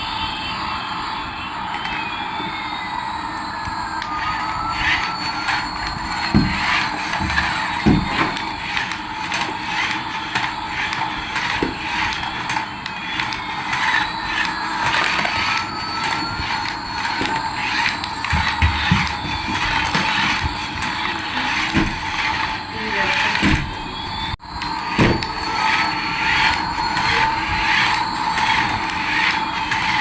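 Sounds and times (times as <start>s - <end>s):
rising and falling whistling tones: 0.0s - 30.0s
electric motor hum: 3.8s - 30.0s.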